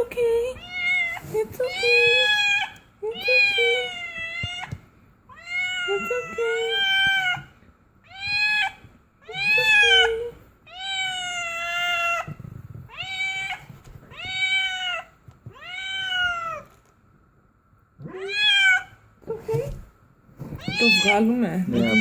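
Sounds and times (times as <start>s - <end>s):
cat meowing: 0.6s - 12.3s, 12.9s - 16.8s, 18.0s - 19.0s, 20.6s - 22.0s.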